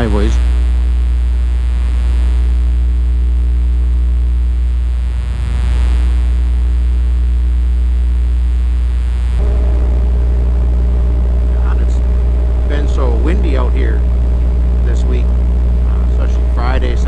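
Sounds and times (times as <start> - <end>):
electrical hum with buzzing overtones: 0.0 - 17.0.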